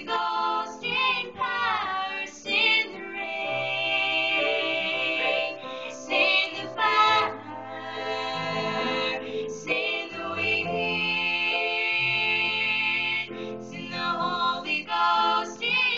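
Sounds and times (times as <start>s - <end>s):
musical backing: 0.0s - 15.9s.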